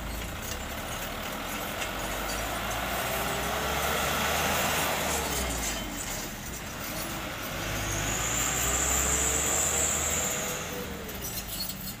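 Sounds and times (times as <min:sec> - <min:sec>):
truck diesel engine running: 0:00.0 - 0:11.6.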